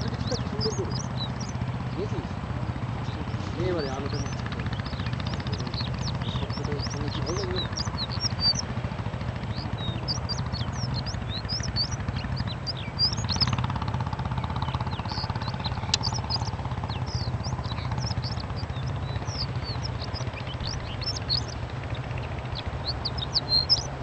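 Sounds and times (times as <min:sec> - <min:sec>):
low engine hum: 0:00.0 - 0:24.0
small birds chirping: 0:00.0 - 0:24.0.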